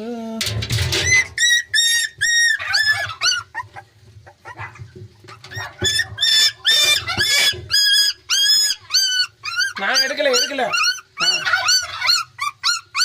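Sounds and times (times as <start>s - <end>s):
puppies whimpering and yelping: 0.0s - 13.0s.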